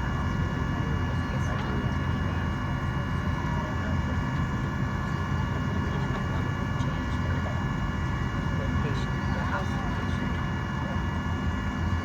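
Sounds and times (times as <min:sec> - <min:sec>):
air-conditioning rumble: 0:00.0 - 0:12.0
thin steady whining tones: 0:00.0 - 0:12.0.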